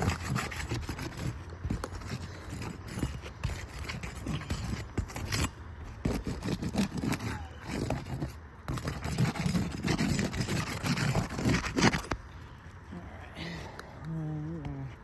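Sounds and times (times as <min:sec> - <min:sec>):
roof shingles scraping and clicking: 0:00.0 - 0:12.3.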